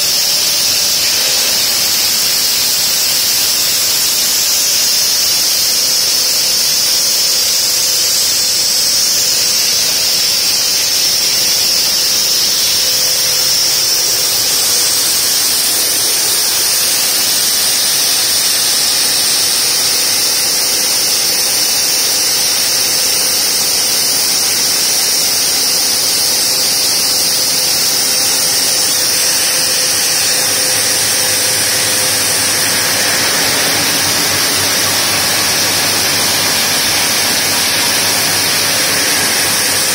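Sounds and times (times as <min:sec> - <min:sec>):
circular saw cutting granite: 0:00.0 - 0:39.9.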